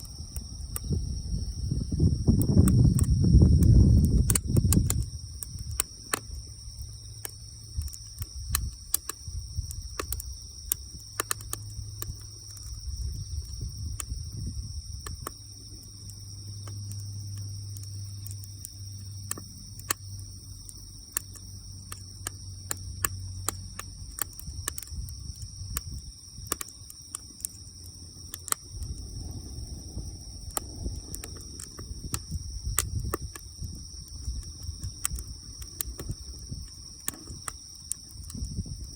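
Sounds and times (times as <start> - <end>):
wood fire crackling: 0.0 - 38.9
sharp pops: 2.2 - 12.8, 15.0 - 38.9.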